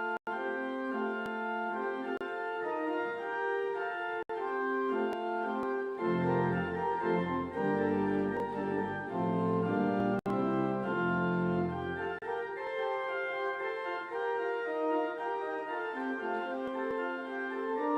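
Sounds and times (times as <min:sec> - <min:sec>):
church organ chords: 0:00.0 - 0:17.9.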